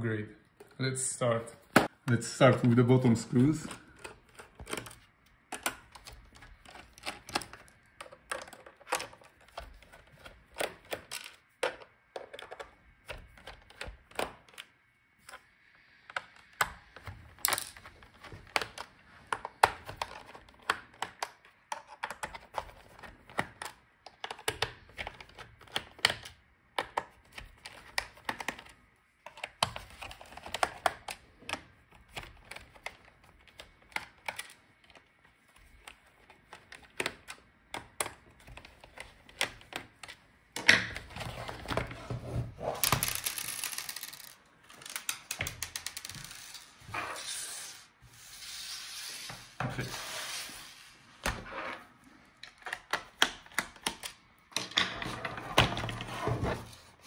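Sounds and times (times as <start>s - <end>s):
laptop handling noise: 1.6s - 48.0s, 51.2s - 57.0s.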